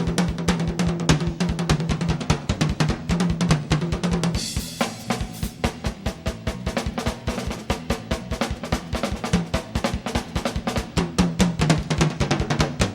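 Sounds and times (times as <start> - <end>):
kick and snare drum strokes: 0.0 - 12.9
live rock band playing: 0.0 - 12.9.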